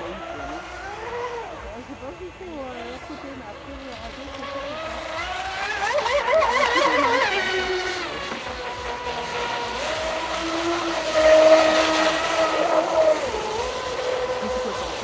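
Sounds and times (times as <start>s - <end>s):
rc boat motor whining: 0.0s - 15.0s.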